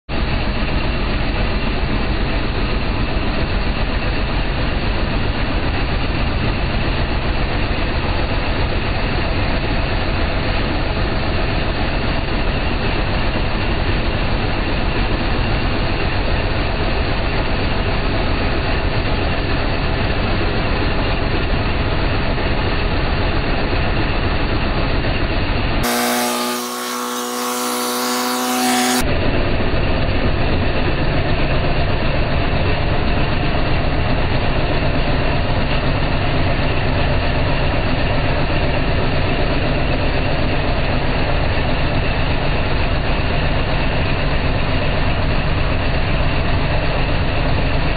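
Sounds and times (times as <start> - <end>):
boat engine running: 0.1 - 47.9.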